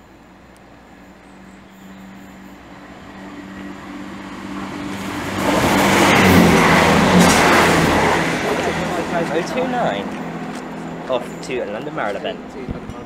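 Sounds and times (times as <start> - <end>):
train engine drone: 0.0 - 13.0
train rushing past: 0.7 - 13.0.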